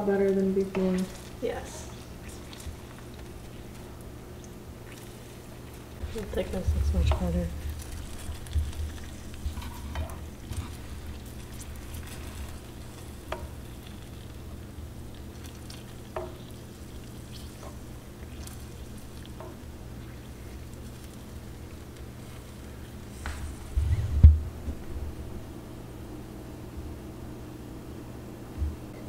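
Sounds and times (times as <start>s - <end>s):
syrup bubbling and sizzling: 0.0s - 24.1s.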